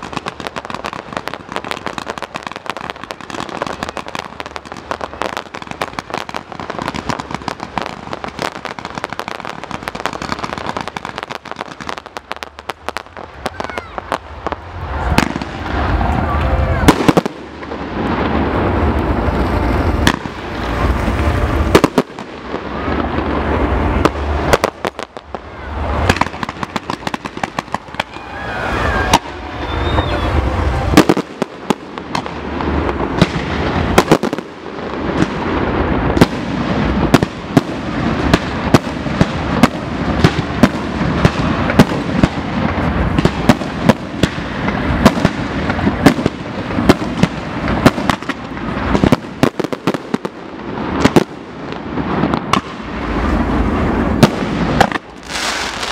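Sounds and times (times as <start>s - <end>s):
sharp fireworks crackling: 0.0s - 55.9s.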